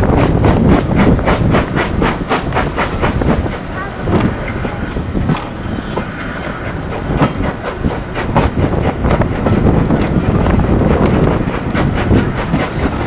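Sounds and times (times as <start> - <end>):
rushing air: 0.0 - 13.0
train rumble: 0.0 - 13.0
train wheels clattering: 0.0 - 13.0.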